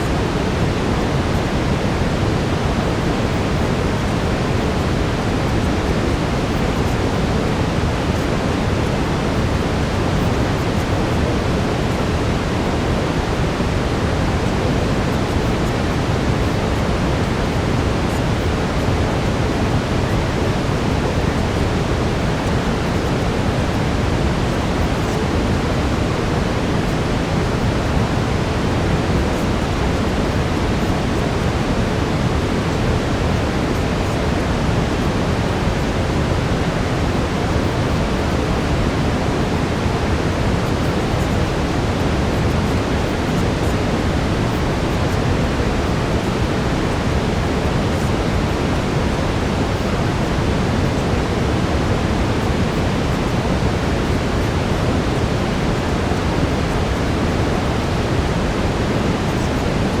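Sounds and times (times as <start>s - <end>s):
brown noise hiss: 0.0s - 60.0s
faint steady tone: 0.0s - 60.0s.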